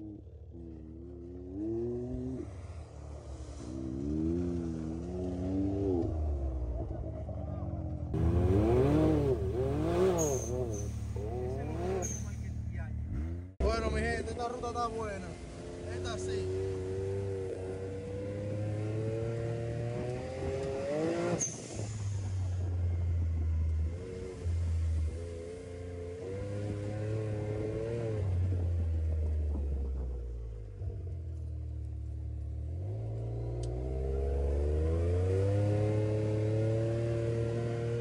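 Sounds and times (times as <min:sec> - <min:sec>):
vehicle engine revving: 0:00.0 - 0:38.0.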